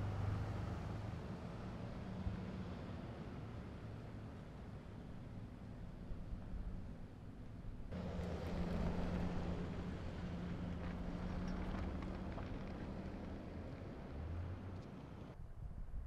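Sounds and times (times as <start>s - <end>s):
vehicles driving past: 0.0s - 15.4s.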